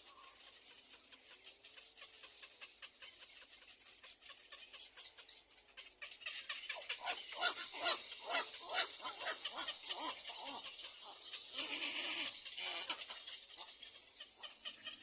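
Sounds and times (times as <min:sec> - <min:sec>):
bird chicks begging calls: 0:00.0 - 0:15.0.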